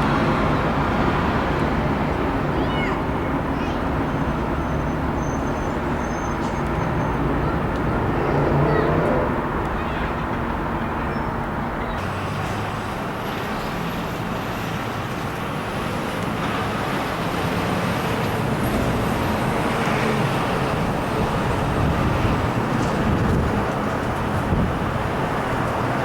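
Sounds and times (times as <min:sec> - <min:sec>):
vehicle rumbling: 0:00.0 - 0:26.0.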